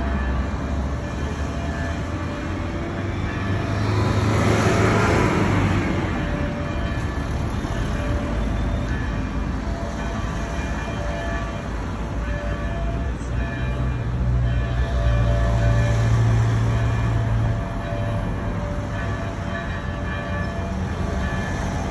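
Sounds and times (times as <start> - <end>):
city traffic rumble: 0.0 - 21.9.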